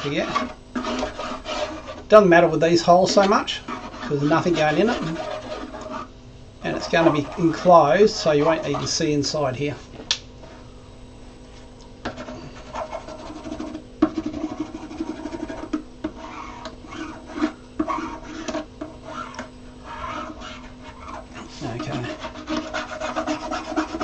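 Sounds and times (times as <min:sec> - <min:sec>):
scratching and rubbing on plastic: 0:00.0 - 0:06.1, 0:06.7 - 0:09.0, 0:12.0 - 0:24.0.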